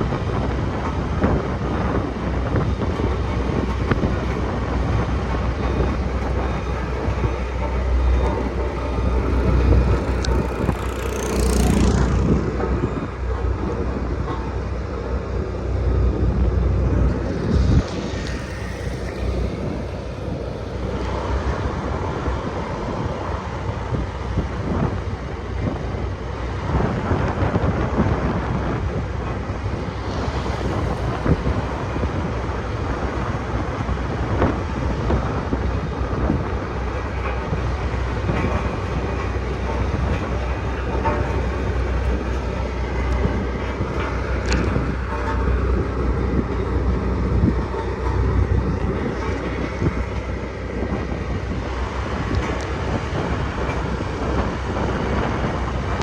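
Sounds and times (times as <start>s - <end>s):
road roller diesel engine running: 0.0s - 56.0s.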